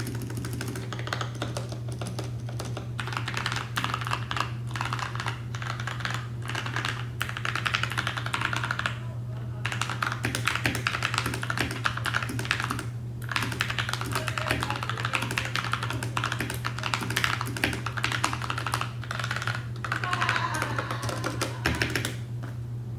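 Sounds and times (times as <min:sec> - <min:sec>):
mechanical keyboard typing: 0:00.0 - 0:09.0, 0:09.6 - 0:22.2
steady low hum: 0:00.0 - 0:22.9.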